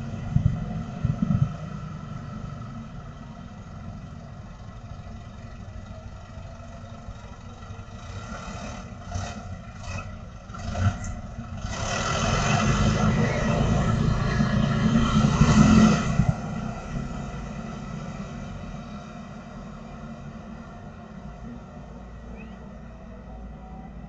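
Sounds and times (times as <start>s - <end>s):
motorcycles: 0.0s - 24.0s
truck engine: 0.0s - 24.0s.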